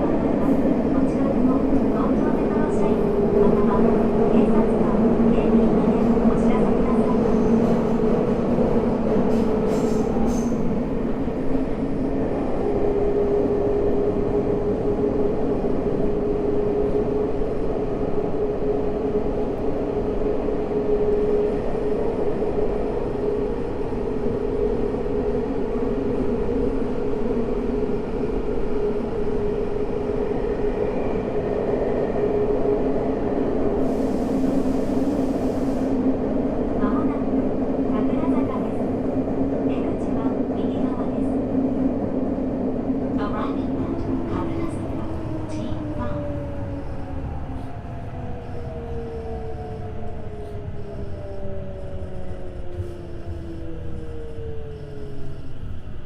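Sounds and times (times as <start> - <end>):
subway wheels rumbling on rail: 0.0 - 56.0.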